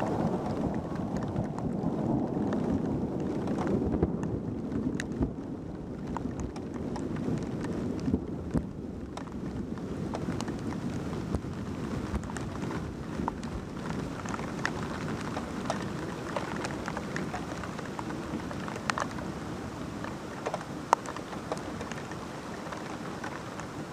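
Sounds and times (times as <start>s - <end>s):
raindrops ticking on hard surface: 0.0s - 23.9s
steady rain: 0.0s - 23.9s.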